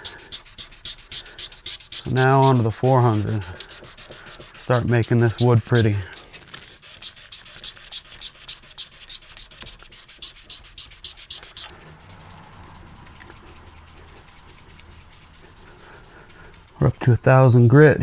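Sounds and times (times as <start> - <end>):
sandpaper sanding wood: 0.0 - 17.8.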